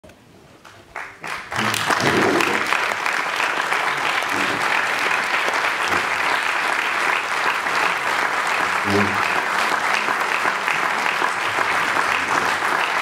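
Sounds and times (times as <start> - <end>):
audience applauding: 0.6 - 13.0.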